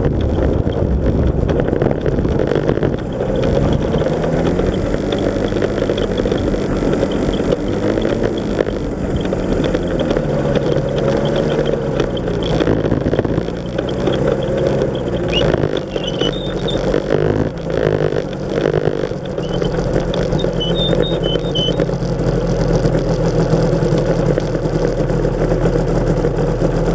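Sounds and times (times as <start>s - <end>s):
knocks and rattles: 0.0s - 22.1s
two-stroke engine running: 0.0s - 26.9s.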